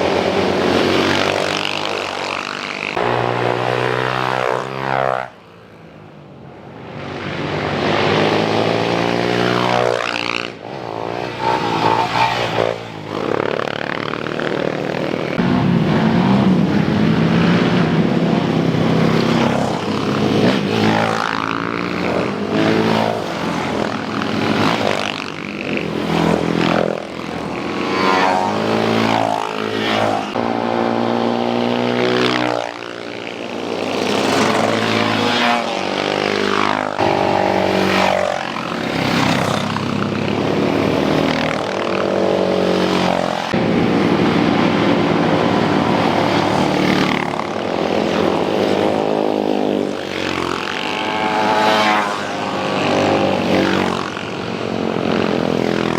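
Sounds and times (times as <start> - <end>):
motorcycle engines revving: 0.0 - 55.9.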